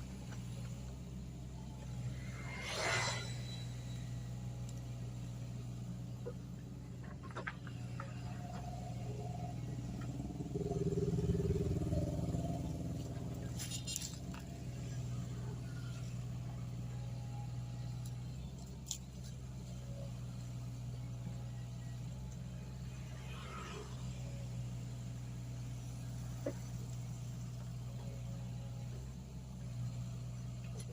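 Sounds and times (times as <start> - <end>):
excavator diesel engine running: 0.0 - 2.5, 3.4 - 30.9.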